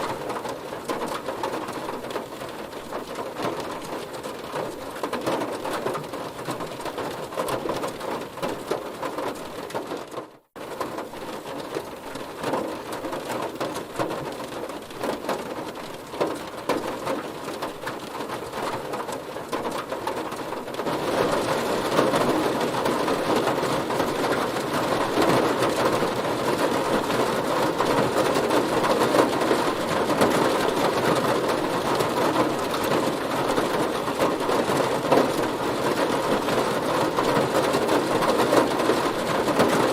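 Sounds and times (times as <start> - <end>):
heavy rain hitting a car: 0.0 - 39.9.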